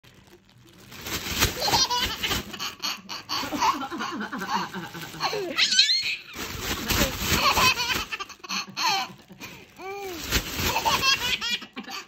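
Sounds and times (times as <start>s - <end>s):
plastic bag crinkling: 0.0s - 12.0s
baby laughing: 1.5s - 12.0s.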